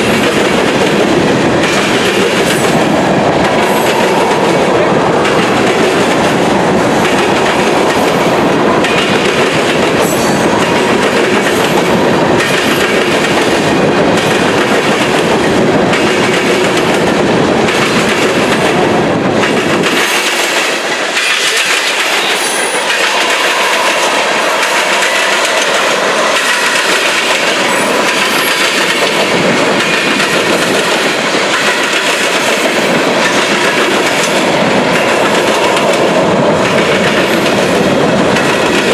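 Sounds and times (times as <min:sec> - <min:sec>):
train wheels clacking on rails: 0:00.0 - 0:38.9.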